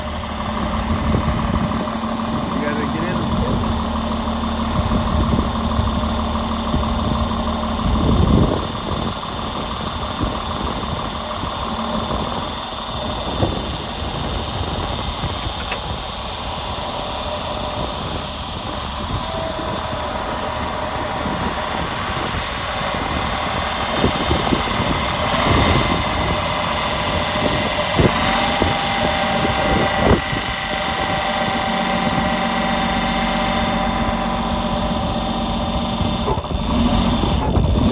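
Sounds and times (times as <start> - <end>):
grinder engine running: 0.0 - 37.9
machine whine: 0.0 - 37.9.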